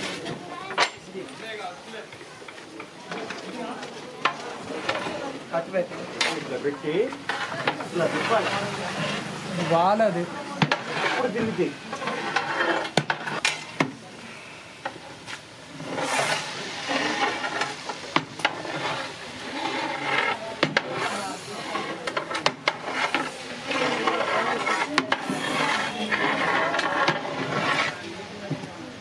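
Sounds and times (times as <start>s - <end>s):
metal ladle scraping a pot: 3.1s - 28.1s.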